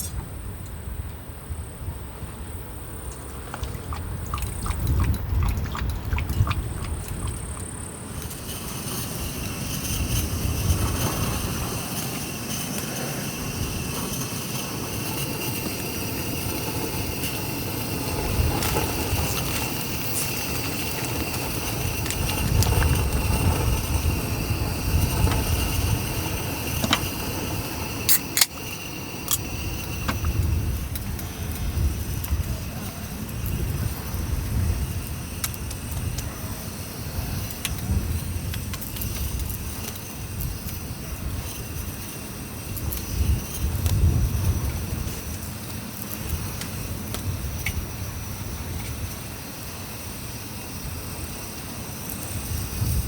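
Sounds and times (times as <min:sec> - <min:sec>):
steady high whine: 0:00.0 - 0:53.0
wind rumbling: 0:00.0 - 0:53.0.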